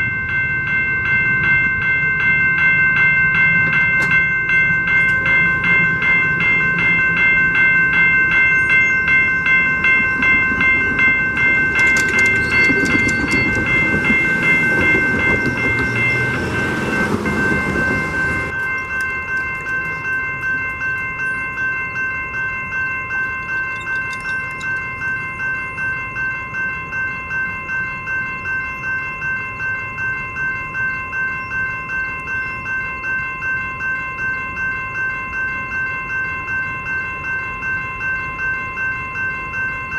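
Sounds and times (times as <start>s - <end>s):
train rumble and wheel clatter: 0.0s - 32.9s
crossing warning bell ringing: 0.0s - 39.9s.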